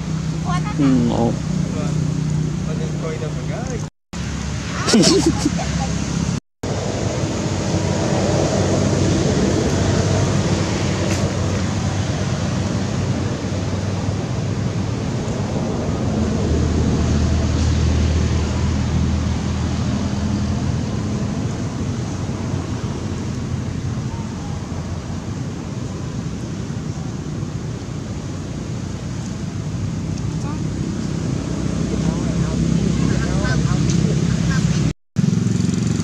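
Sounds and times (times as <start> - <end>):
outdoor rushing noise: 1.4 - 36.0.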